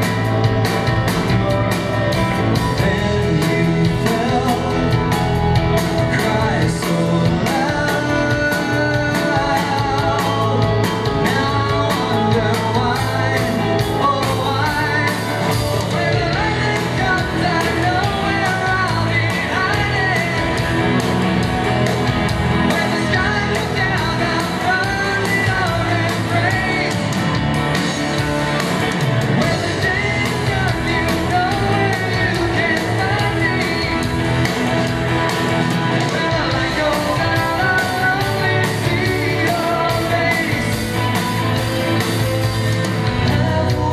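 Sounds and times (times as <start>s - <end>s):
live rock band playing: 0.0s - 43.9s
lead vocal singing: 2.4s - 43.9s.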